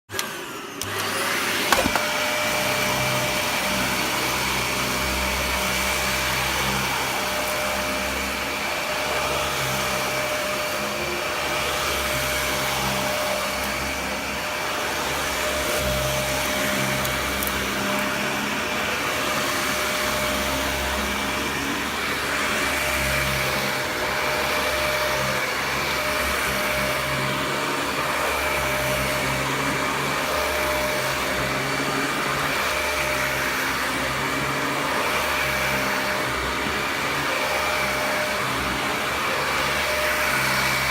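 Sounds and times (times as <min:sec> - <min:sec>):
upright vacuum cleaner running: 0:00.1 - 0:40.9.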